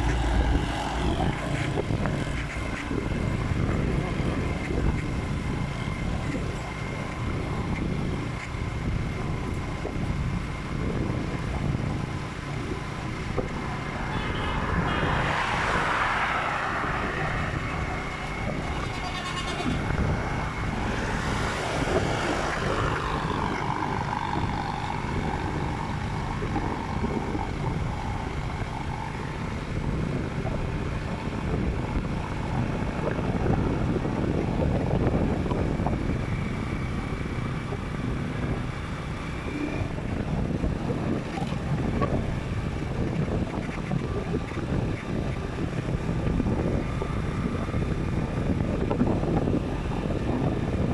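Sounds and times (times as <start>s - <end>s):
motorcycle engine rumble: 0.0s - 50.9s
road and wind noise: 0.0s - 50.9s.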